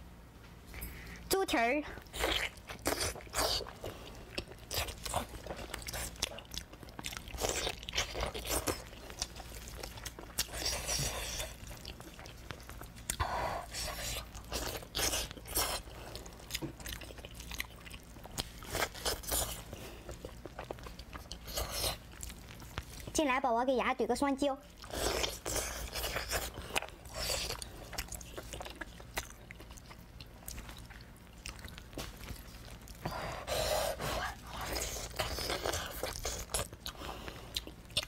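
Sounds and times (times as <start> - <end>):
person biting and chewing: 2.0 - 22.9, 24.8 - 33.1, 33.8 - 38.0.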